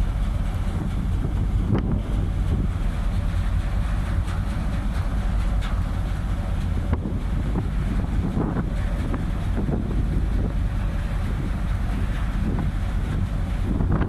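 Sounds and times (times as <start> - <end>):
ferry low rumble: 0.0 - 14.0
wind buffeting microphone: 0.0 - 14.0.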